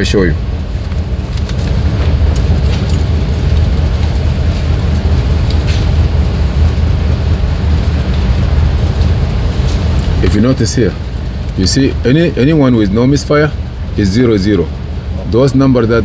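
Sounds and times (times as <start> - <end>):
rough engine idling: 0.0 - 16.0.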